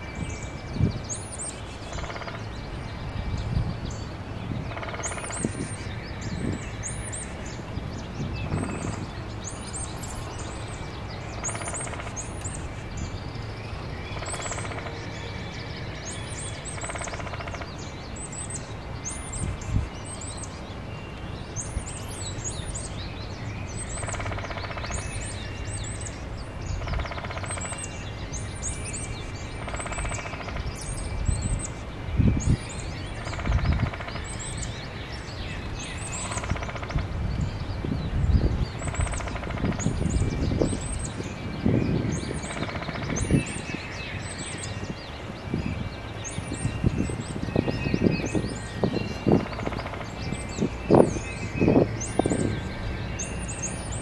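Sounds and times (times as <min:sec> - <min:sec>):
lower bird song phrase: 0:00.0 - 0:54.0
songbirds chirping: 0:00.0 - 0:54.0.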